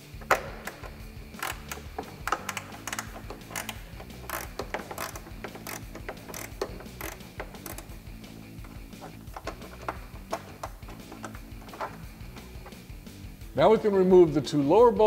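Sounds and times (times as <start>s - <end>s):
wrench clicking: 0.0s - 12.8s.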